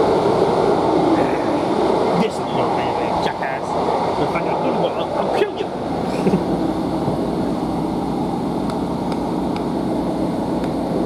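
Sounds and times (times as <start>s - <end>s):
diesel train engine running: 0.0s - 11.0s
train hum: 0.0s - 11.0s.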